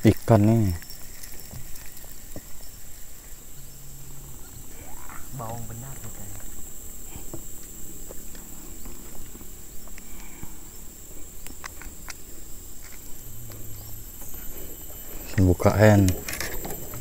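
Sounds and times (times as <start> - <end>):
frogs calling: 0.0 - 17.0
high-pitched insect chorus: 0.0 - 17.0.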